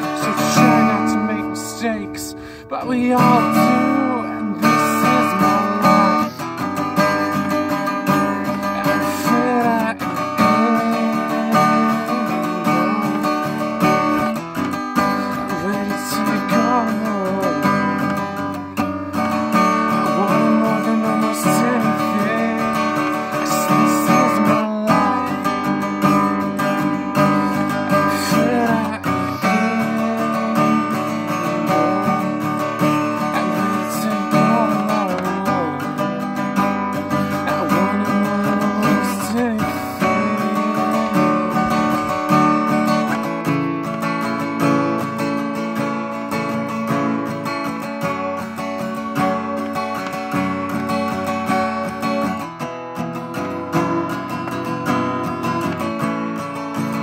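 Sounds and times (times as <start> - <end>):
acoustic guitar strummed: 0.0 - 57.0.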